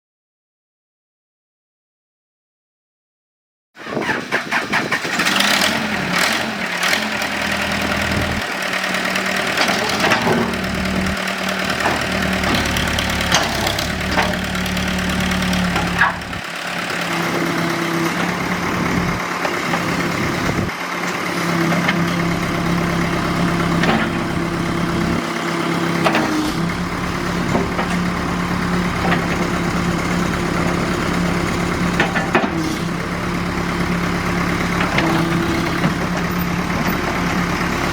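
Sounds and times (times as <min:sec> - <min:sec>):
diesel engine running: 0:03.8 - 0:37.9.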